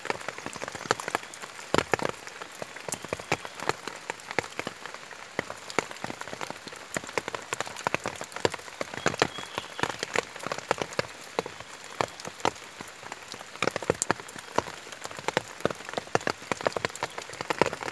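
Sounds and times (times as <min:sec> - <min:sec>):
rain on leaves and wet ground: 0:00.0 - 0:17.9.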